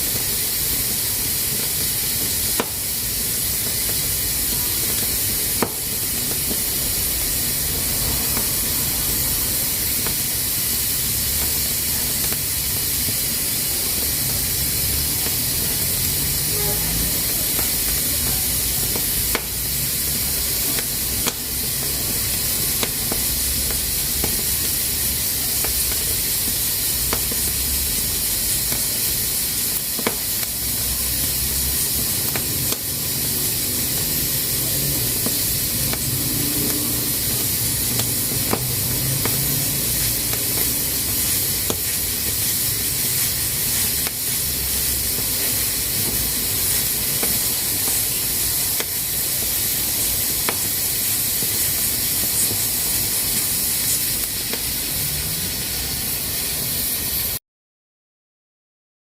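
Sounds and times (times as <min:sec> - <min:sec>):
pressure cooker hissing: 0:00.0 - 0:57.4.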